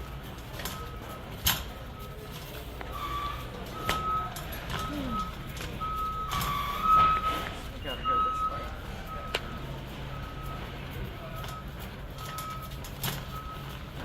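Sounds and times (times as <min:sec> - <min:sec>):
electronic backup alarm beeping: 0:00.0 - 0:14.0.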